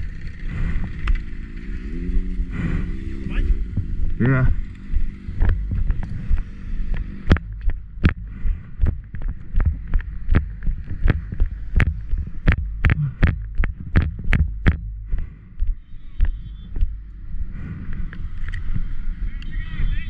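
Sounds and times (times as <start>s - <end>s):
low rumble: 0.0s - 19.4s.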